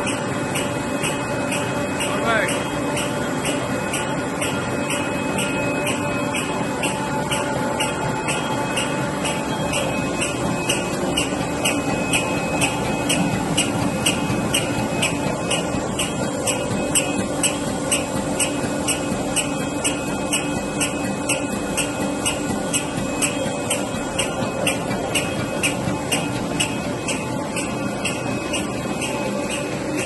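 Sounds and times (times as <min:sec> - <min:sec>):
machine humming: 0:00.0 - 0:30.0
sharp mechanical ticks: 0:00.0 - 0:30.0.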